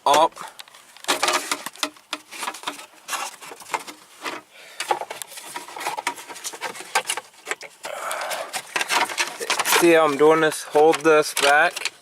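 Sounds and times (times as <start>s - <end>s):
plastic parts clicking and rubbing: 0.0s - 12.0s.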